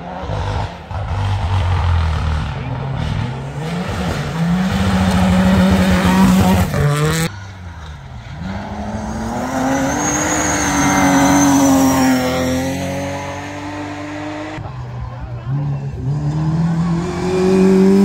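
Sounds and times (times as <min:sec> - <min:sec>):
rally car engine at full throttle: 0:00.0 - 0:18.0.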